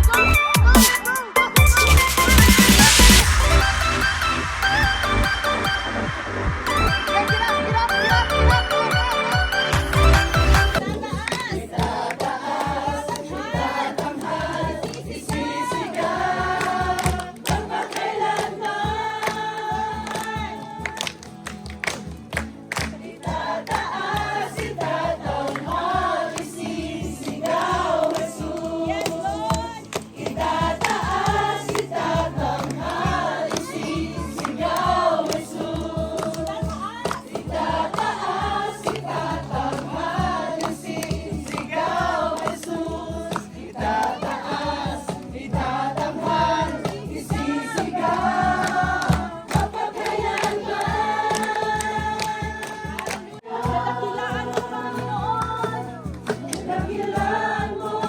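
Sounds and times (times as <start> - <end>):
group of voices singing: 0.0 - 21.3, 22.7 - 58.0.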